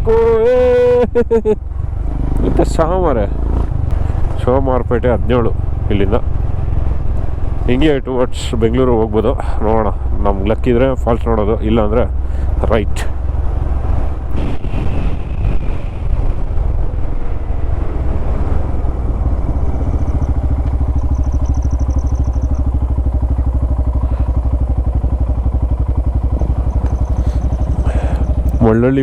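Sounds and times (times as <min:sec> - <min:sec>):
motorcycle engine running: 0:00.1 - 0:29.0.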